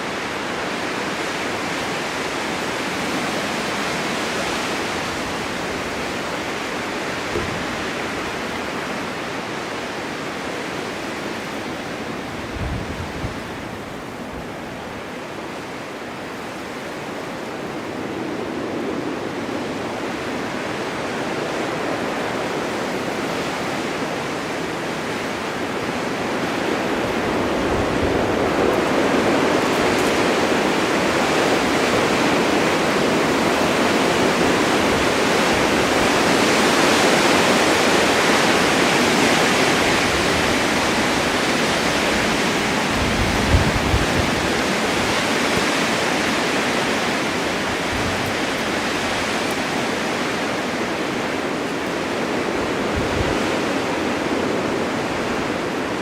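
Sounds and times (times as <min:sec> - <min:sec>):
blizzard wind rushing: 0:00.0 - 0:56.0
wind gusts buffeting microphone: 0:00.0 - 0:56.0.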